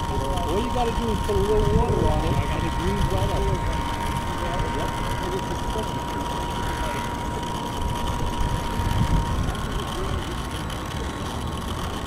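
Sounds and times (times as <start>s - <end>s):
model boat motor whining: 0.0s - 12.0s.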